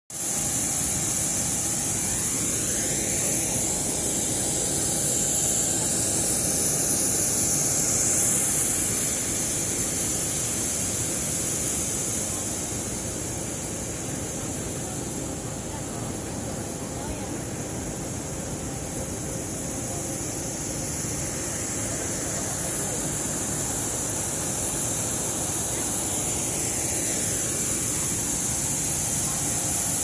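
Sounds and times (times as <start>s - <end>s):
jet turbine whine and hiss: 0.2s - 30.0s.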